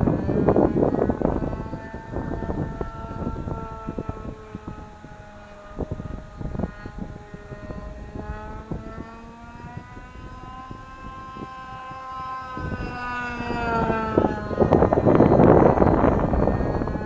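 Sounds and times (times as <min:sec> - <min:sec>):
model aircraft engine buzzing: 0:00.0 - 0:17.0
wind buffeting microphone: 0:00.0 - 0:17.0.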